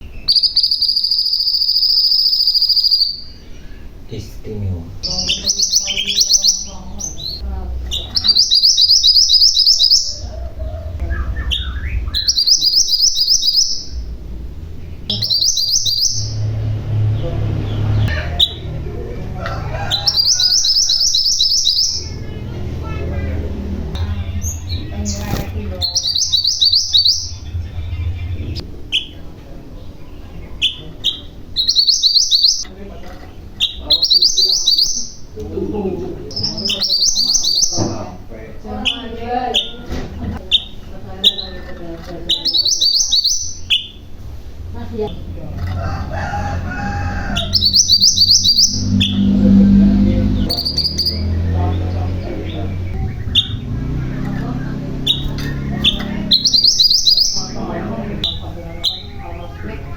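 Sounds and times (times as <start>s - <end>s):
low background sound: 0.0s - 59.9s
songbird singing: 0.0s - 59.9s.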